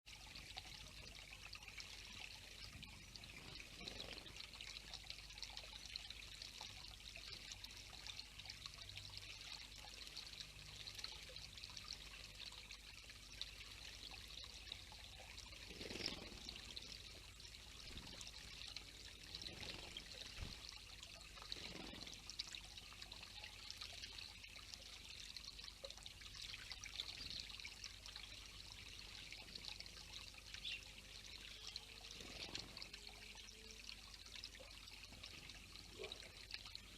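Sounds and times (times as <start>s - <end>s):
water trickling and pouring: 0.1s - 36.9s.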